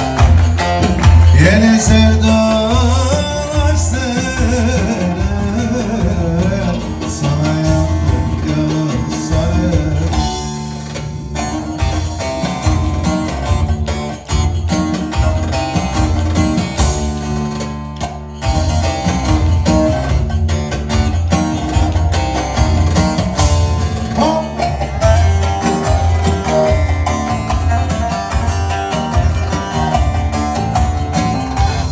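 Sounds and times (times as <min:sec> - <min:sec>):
folk dance music with lute and band: 0:00.0 - 0:31.9.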